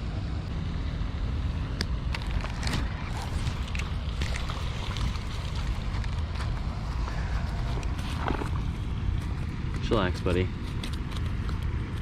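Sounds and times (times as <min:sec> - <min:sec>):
wind rumbling on microphone: 0:01.6 - 0:12.0.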